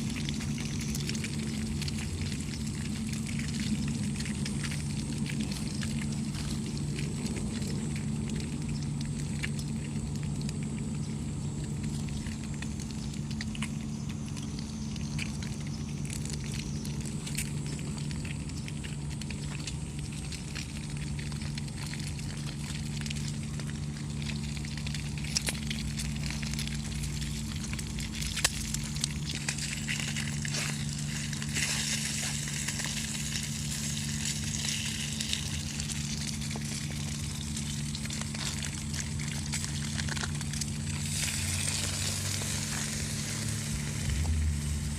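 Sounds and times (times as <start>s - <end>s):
fire crackling and popping: 0.0s - 44.9s
steady low hum: 0.0s - 44.9s.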